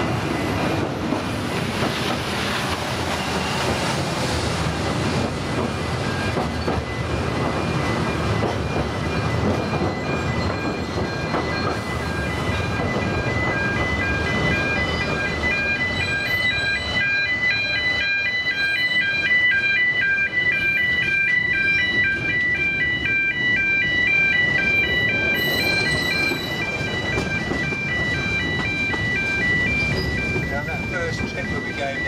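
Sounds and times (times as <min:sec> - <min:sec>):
train rumble: 0:00.0 - 0:32.0
level crossing two-tone alarm: 0:05.8 - 0:32.0.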